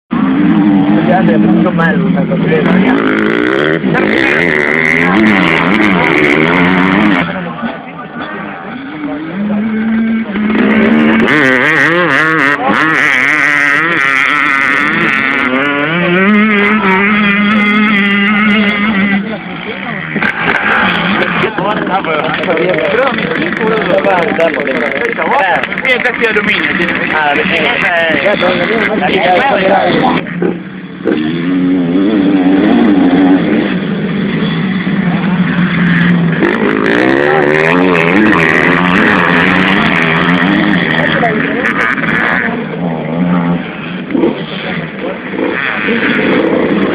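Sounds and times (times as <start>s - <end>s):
dirt bike engine revving: 0.1s - 46.9s.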